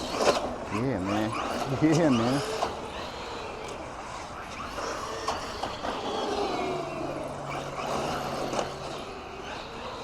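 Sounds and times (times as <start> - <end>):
toy car electric motor whining: 0.0 - 10.0.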